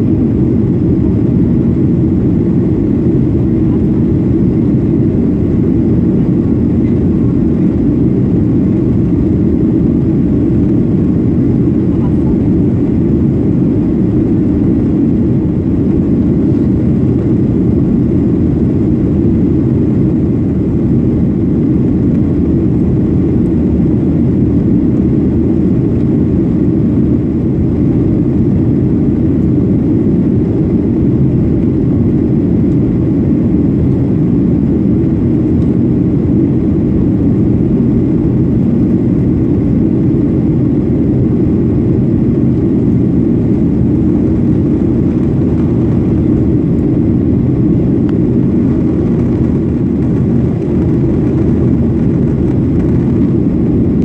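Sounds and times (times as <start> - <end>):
jet engine and airflow noise: 0.0 - 54.0.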